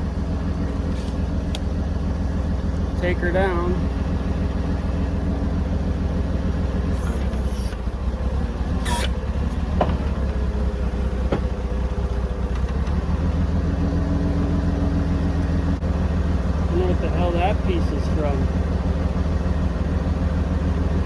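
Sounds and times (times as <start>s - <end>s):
drill rig engine running: 0.0s - 21.0s.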